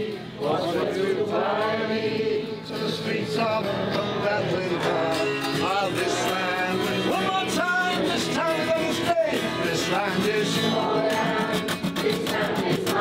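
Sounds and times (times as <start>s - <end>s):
acoustic guitar folk music: 0.0s - 13.0s.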